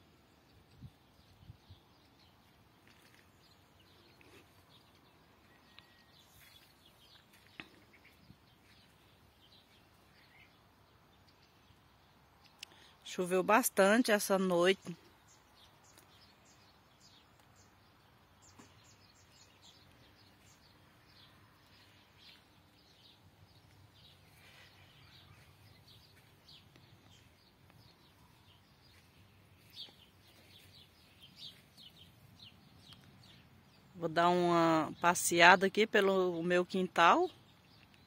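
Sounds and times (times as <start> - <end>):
birds chirping: 0.2 - 38.0.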